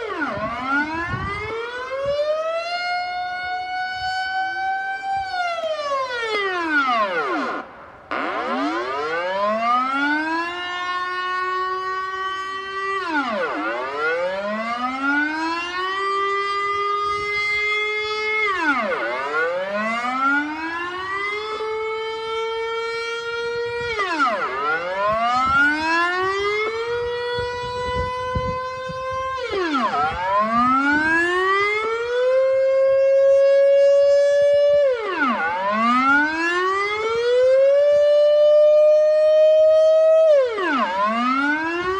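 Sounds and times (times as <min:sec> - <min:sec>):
air-raid siren wailing: 0:00.0 - 0:41.9.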